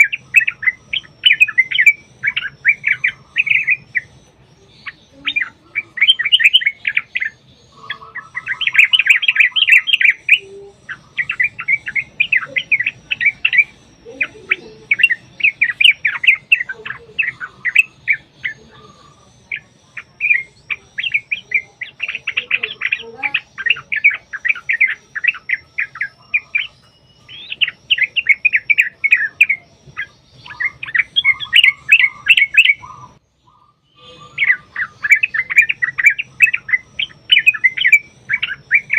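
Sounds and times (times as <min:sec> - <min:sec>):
bulbuls chattering: 0:00.0 - 0:38.9.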